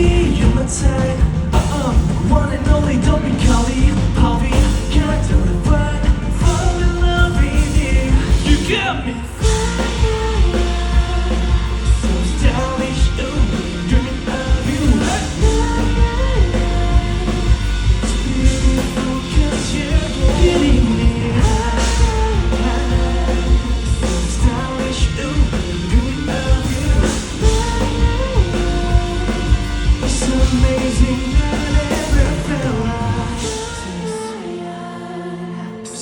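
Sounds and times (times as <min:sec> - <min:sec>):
live rock band playing: 0:00.0 - 0:35.7
person singing: 0:00.0 - 0:36.0.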